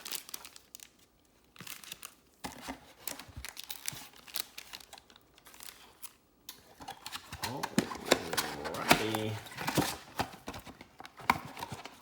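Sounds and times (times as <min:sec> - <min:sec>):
plastic packaging tearing and crinkling: 0:00.0 - 0:12.0.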